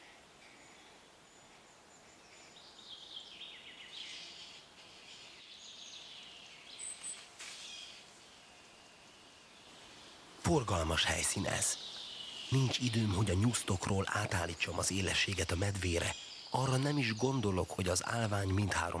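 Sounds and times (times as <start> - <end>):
quiet forest ambience: 0.0 - 19.0.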